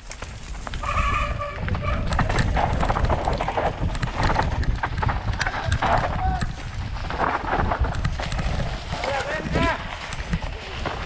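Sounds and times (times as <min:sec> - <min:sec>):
bike tyres rattling over rocks: 0:00.0 - 0:11.0
wind rumble on microphone: 0:00.0 - 0:11.0.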